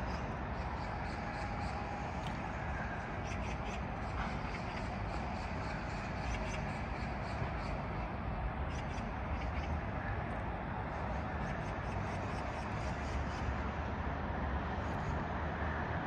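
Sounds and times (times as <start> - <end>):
steady low city hum: 0.0 - 16.0.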